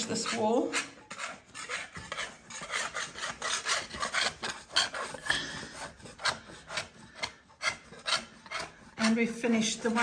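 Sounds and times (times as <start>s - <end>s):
scraper stripping wallpaper: 0.0s - 10.0s.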